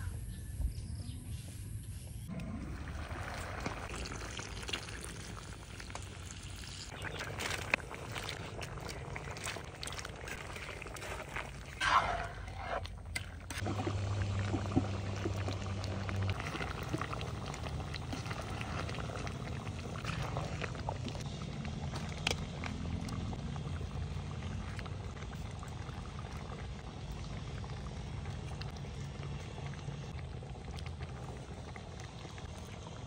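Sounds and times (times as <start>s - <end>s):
liquid pouring: 2.3s - 33.0s.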